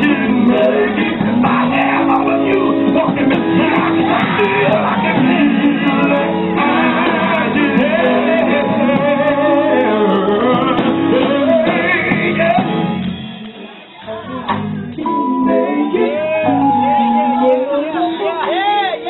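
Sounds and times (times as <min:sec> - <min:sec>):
male vocal group singing gospel: 0:00.0 - 0:13.0, 0:15.0 - 0:19.0
electric guitar and band: 0:00.0 - 0:19.0.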